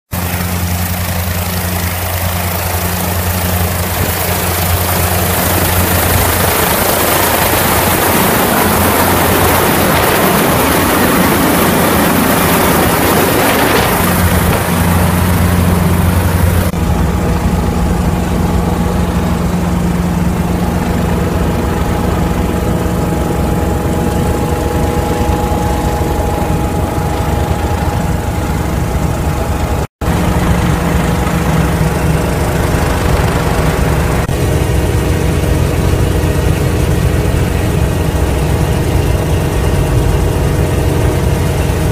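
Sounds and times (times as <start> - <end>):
helicopter engine and rotor drone: 0.1 - 41.9
whining tones: 0.2 - 41.9.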